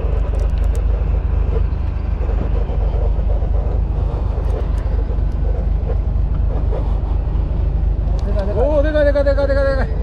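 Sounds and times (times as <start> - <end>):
wind on microphone: 0.0 - 8.6
boat engine idling: 0.0 - 10.0.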